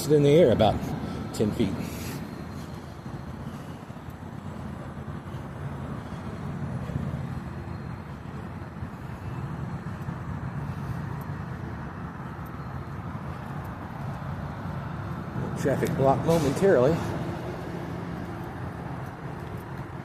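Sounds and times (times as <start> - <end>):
faint road traffic: 0.0 - 20.0
heavy engine rumbling: 0.0 - 20.0.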